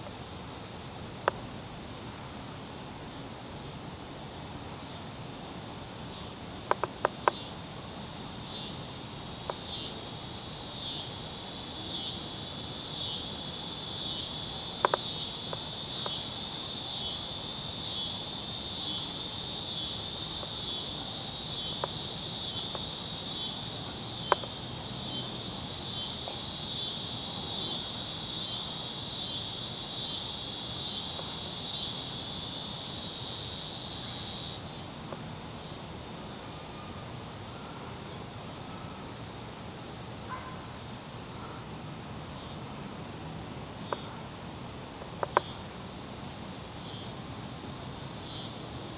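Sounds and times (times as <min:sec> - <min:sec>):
cicadas buzzing: 0:03.1 - 0:48.9.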